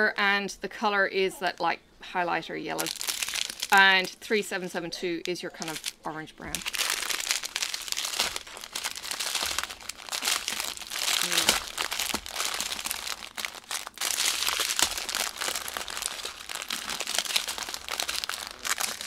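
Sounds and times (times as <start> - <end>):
plastic bags crinkling: 2.7 - 4.2, 5.2 - 19.0.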